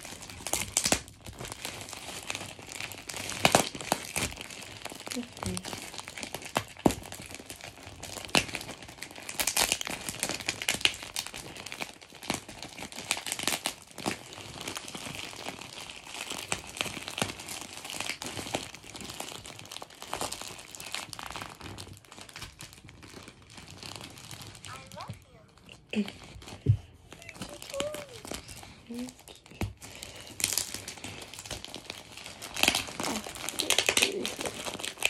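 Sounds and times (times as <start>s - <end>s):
plastic bag crinkling: 0.0s - 35.0s.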